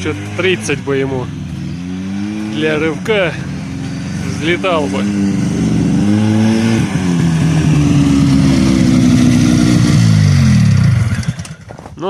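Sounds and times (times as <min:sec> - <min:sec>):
snowmobile engine revving high: 0:00.0 - 0:11.5.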